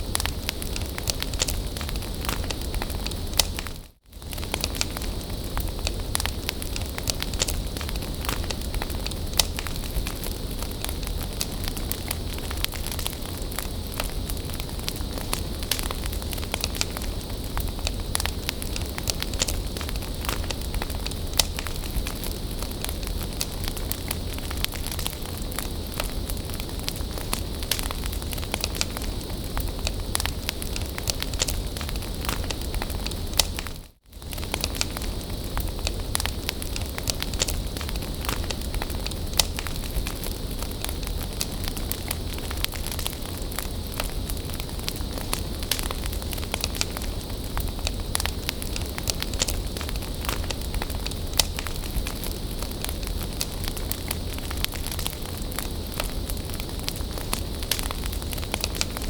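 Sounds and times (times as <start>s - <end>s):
bonfire crackling and hissing: 0.0s - 59.0s.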